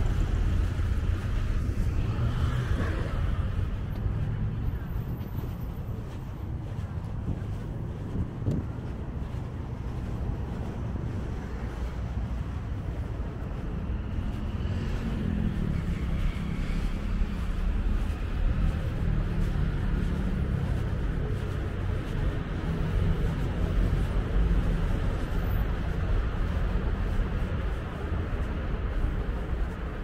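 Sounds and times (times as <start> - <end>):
city street traffic: 0.0 - 30.0
vehicle engine running: 0.0 - 30.0.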